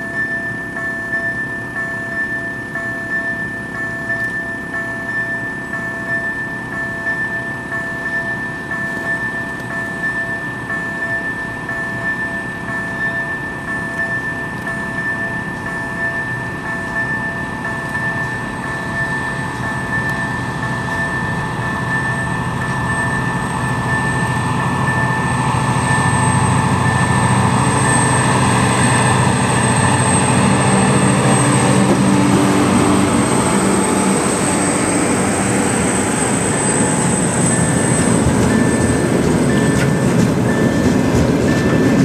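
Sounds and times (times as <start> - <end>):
diesel locomotive engine: 0.0 - 42.0.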